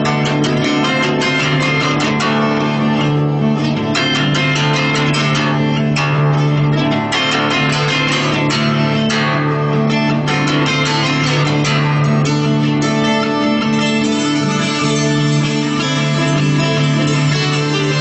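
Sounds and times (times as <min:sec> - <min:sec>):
acoustic guitar strumming: 0:00.0 - 0:18.0
hammered dulcimer: 0:00.0 - 0:18.0.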